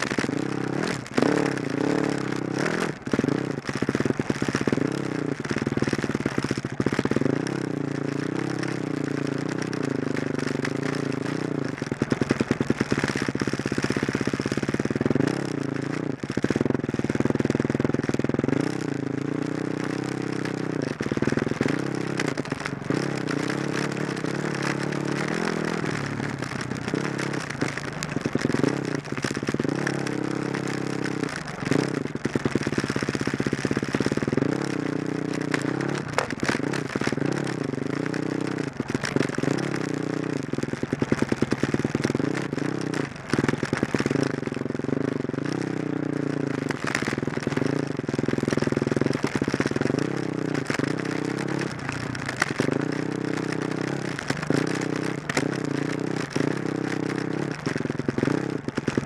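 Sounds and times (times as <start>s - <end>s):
off-road vehicle engine revving: 0.0s - 5.9s, 6.8s - 12.6s, 13.2s - 58.6s.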